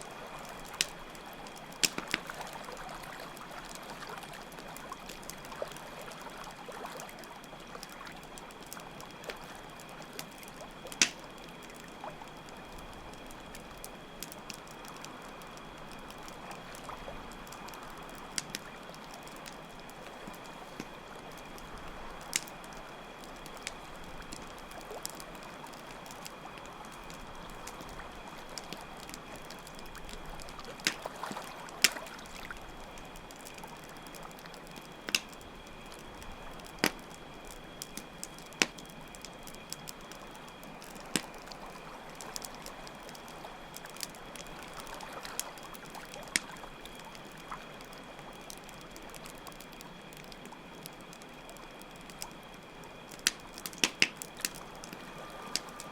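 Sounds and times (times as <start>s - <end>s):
campfire crackling and popping: 0.0s - 55.9s
crickets trilling: 0.0s - 55.9s.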